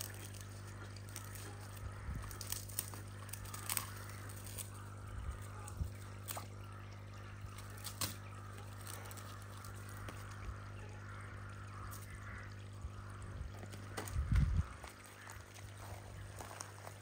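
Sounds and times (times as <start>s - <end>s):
constant low hum: 0.0s - 17.0s
pond water trickling: 0.0s - 17.0s.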